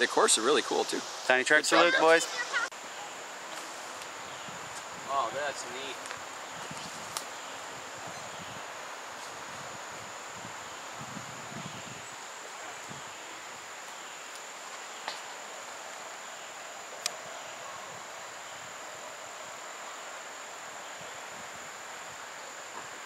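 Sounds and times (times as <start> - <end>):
insects chirring: 0.0 - 23.0
outdoor background hiss: 0.0 - 23.0.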